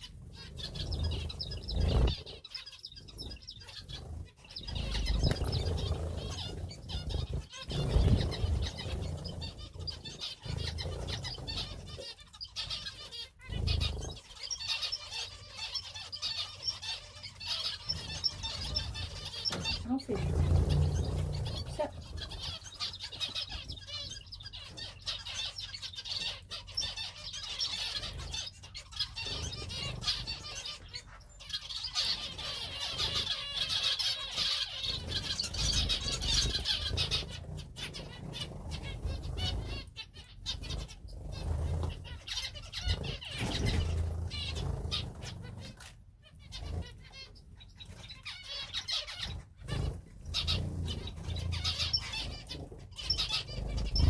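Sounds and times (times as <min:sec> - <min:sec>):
wingbeats fluttering: 0:00.0 - 0:15.5, 0:16.1 - 0:25.6, 0:31.6 - 0:45.9, 0:49.2 - 0:54.0
finches chirping: 0:00.0 - 0:54.0.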